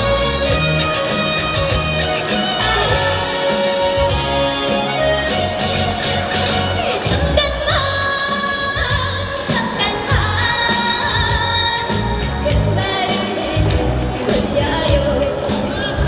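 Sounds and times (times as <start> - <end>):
backing music with bass beat: 0.0 - 16.0
woman singing: 0.0 - 16.0.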